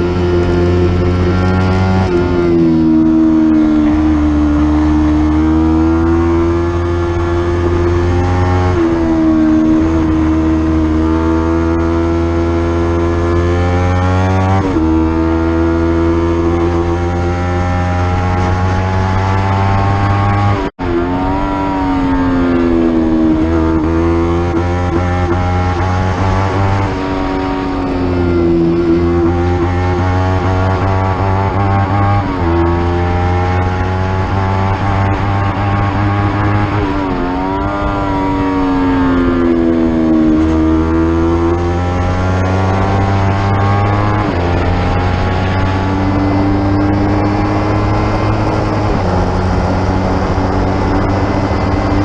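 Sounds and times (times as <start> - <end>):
racing motorcycle engine: 0.0 - 52.0.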